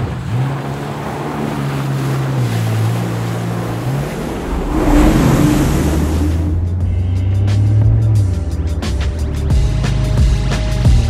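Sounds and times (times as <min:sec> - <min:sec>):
water spray rushing: 0:00.0 - 0:09.2
jet ski engine running: 0:00.0 - 0:11.0.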